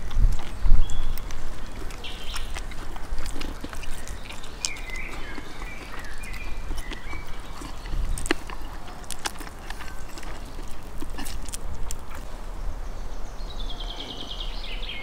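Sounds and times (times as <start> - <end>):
meat tearing clicks: 0.0 - 12.2
wet chewing and lip-smacking: 0.0 - 12.3.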